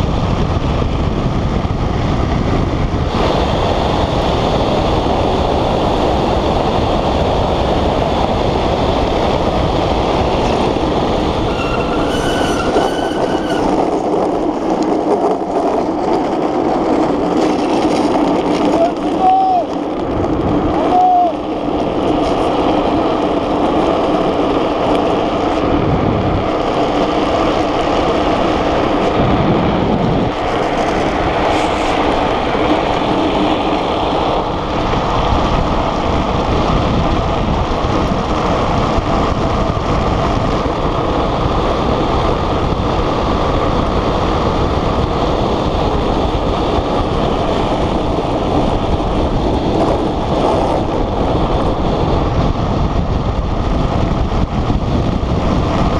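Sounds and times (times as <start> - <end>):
wheels rolling on asphalt: 0.0 - 55.9
wind rushing over microphone: 0.0 - 55.9.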